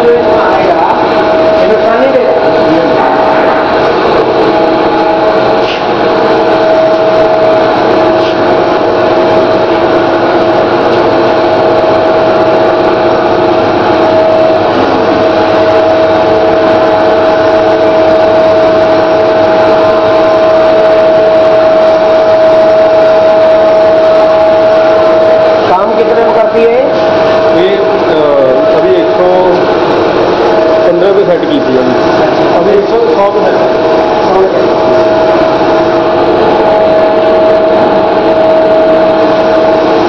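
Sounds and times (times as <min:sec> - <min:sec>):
constant pitched hum: 0:00.0 - 0:40.0
laminate press machine drone: 0:00.0 - 0:40.0.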